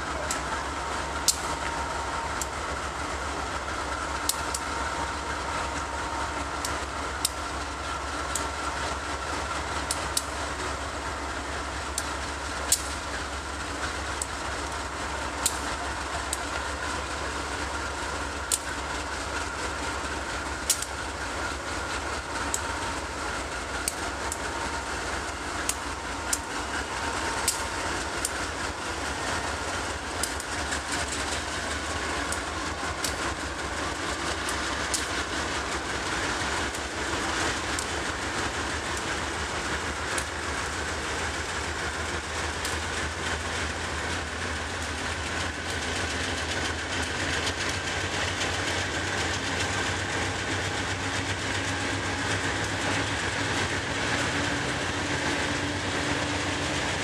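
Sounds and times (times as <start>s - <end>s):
diesel locomotive drone: 0.0s - 57.0s
wheels clicking over rail joints: 0.0s - 57.0s.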